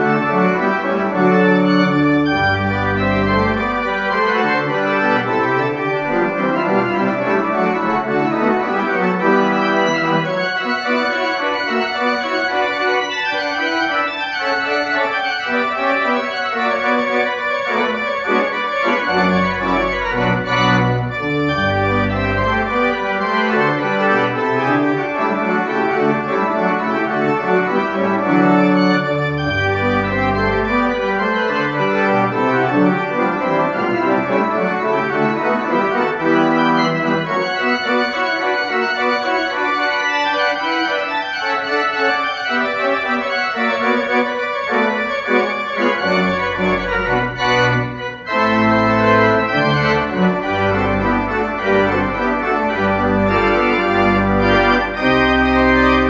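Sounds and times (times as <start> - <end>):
church pipe organ playing: 0.0 - 56.0.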